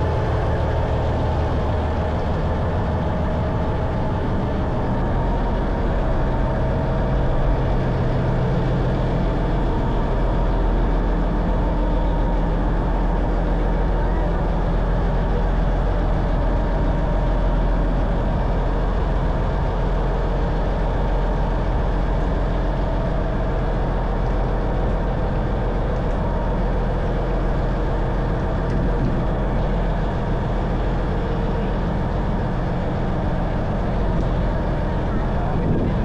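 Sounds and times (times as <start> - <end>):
boat diesel engine humming: 0.0 - 36.0.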